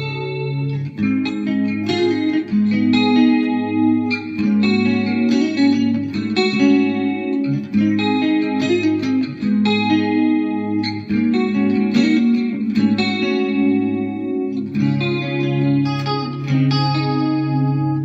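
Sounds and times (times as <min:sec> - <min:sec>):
clean electric guitar chords: 0:00.0 - 0:18.0.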